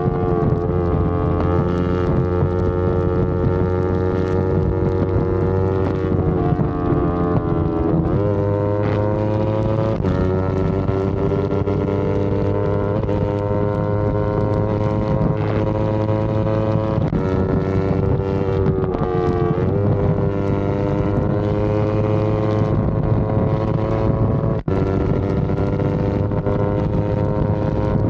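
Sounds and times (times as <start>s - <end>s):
motorcycle engine running: 0.0s - 28.0s
wind on microphone: 0.0s - 28.0s.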